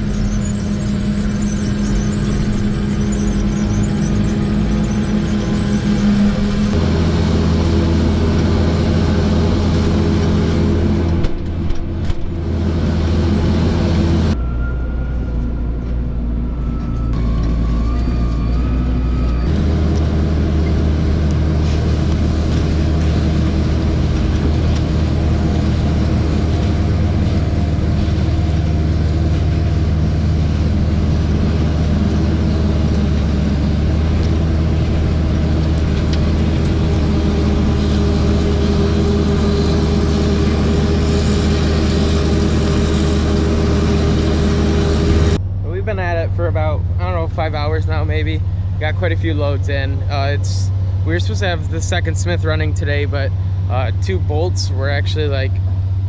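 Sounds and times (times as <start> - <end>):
diesel farm machinery engine drone: 0.0 - 56.0.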